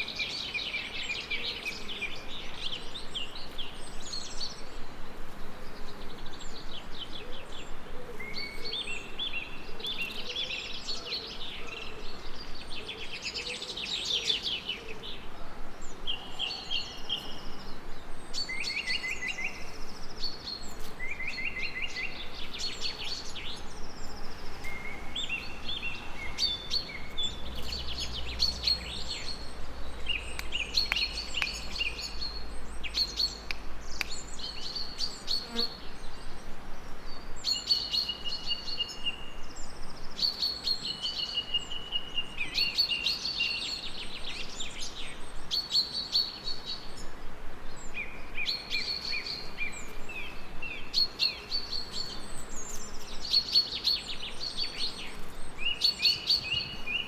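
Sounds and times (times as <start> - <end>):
songbirds singing: 0.0 - 57.0
steady background hiss: 0.0 - 57.0.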